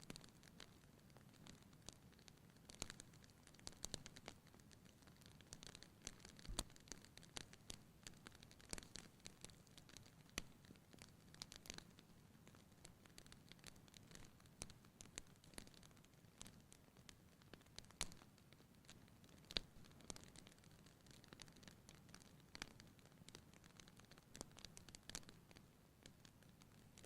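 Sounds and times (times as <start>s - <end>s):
faint low hiss: 0.0s - 27.0s
wood fire crackling and popping: 0.0s - 27.0s.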